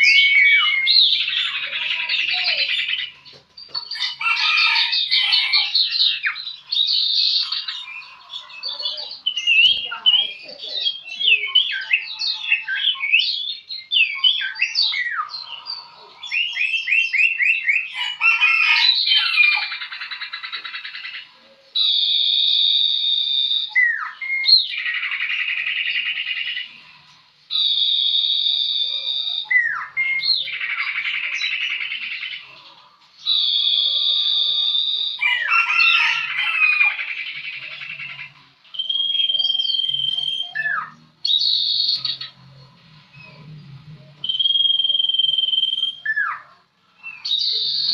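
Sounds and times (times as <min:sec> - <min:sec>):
bird chirps and trills: 0:00.0 - 0:47.9.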